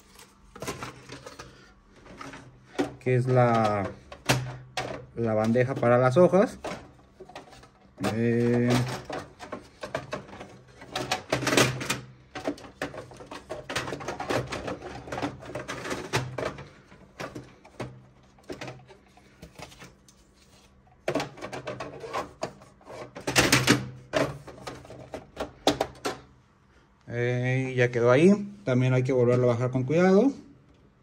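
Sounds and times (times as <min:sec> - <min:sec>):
plastic parts clicking and knocking: 0:00.2 - 0:20.1, 0:21.0 - 0:26.3.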